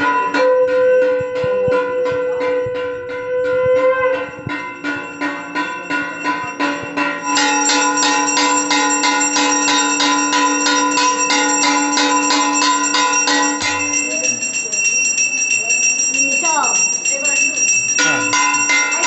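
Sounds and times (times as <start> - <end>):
bells rung rapidly: 0.0 - 19.0.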